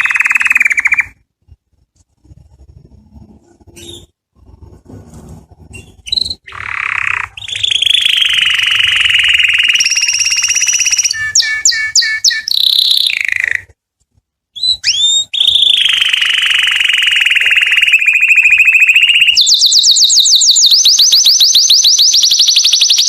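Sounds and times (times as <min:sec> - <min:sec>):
canary singing: 0:00.0 - 0:01.2, 0:02.2 - 0:04.8, 0:05.4 - 0:13.8, 0:14.5 - 0:23.0.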